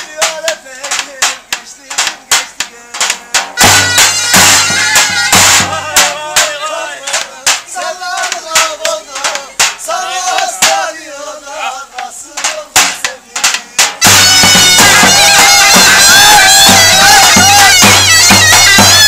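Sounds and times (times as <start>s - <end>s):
zurna folk melody: 0.0s - 19.0s.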